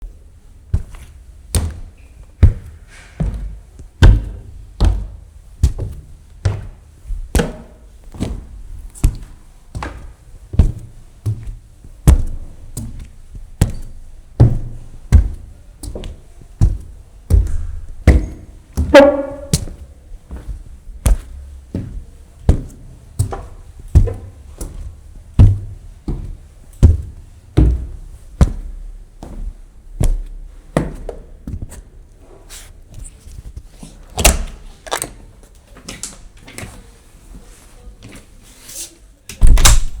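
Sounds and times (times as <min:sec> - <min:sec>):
footsteps on stairs: 0:00.7 - 0:35.0.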